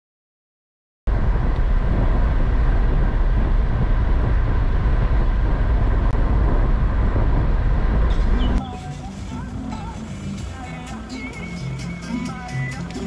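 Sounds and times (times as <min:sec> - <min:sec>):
car cabin road and engine drone: 0:01.1 - 0:13.0.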